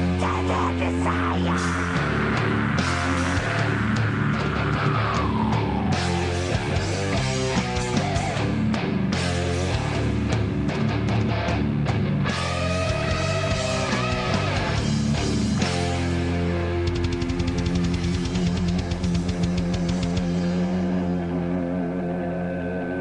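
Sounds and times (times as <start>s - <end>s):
live heavy rock band: 0.0s - 23.0s.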